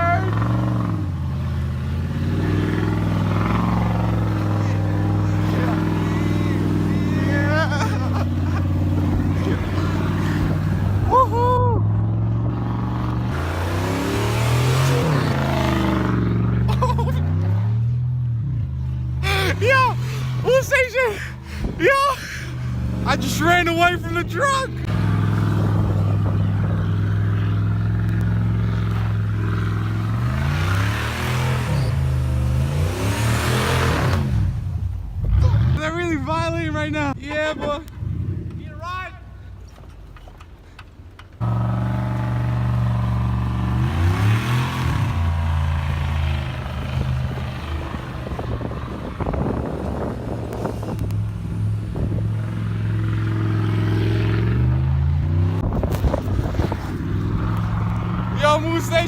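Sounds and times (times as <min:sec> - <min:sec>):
vehicle engine revving: 0:00.0 - 0:21.8, 0:22.4 - 0:38.9, 0:41.4 - 0:59.0.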